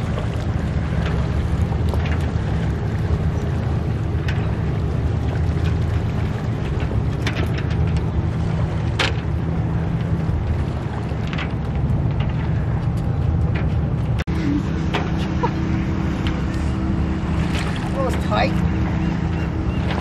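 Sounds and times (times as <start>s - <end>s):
kayak paddle splashing: 0.0s - 20.0s
low rumble: 0.0s - 20.0s.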